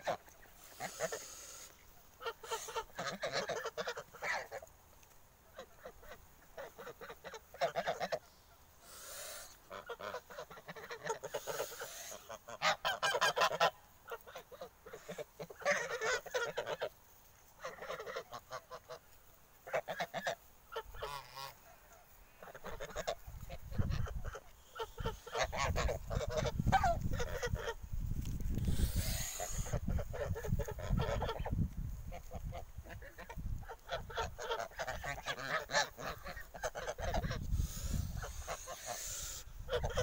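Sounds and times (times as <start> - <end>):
geese honking: 0.0 - 27.8, 28.6 - 40.0.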